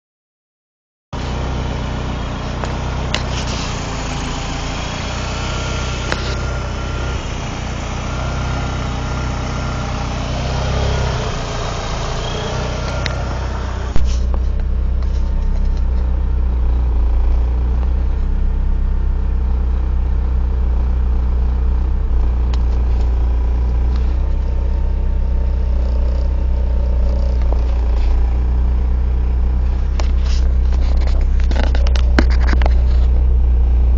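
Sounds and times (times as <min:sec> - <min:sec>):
car engine idling roughly: 0:01.2 - 0:33.9.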